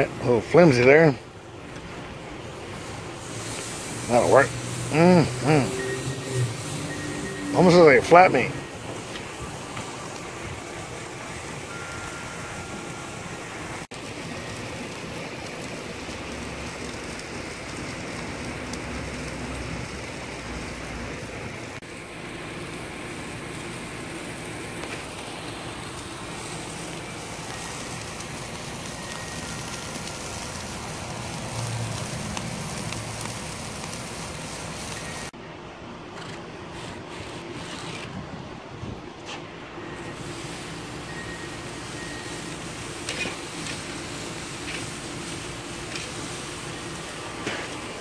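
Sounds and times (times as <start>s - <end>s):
steak sizzling on grill: 0.0s - 35.4s, 39.8s - 48.0s.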